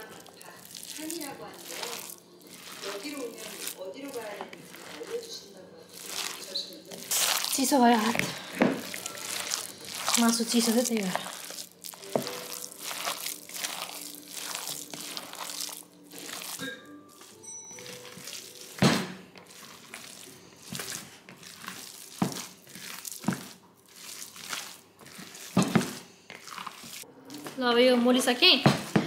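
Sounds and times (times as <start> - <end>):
hands squishing wet filling: 0.0 - 29.0.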